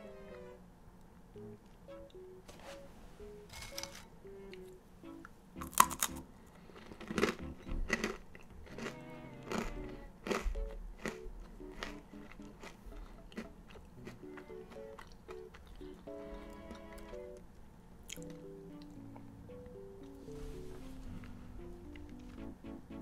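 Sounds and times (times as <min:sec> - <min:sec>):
quiet background music: 0:00.0 - 0:23.0.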